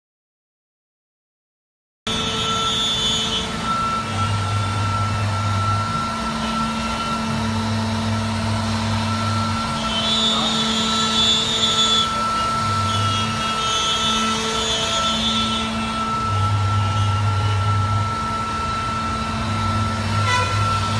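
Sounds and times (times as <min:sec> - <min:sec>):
router spindle high whine: 0:02.1 - 0:20.9
deeper hum: 0:03.6 - 0:20.9.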